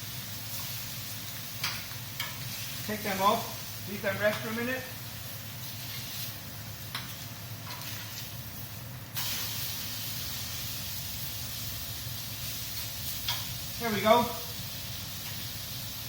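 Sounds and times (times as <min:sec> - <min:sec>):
food sizzling on a grill: 0:00.0 - 0:16.0.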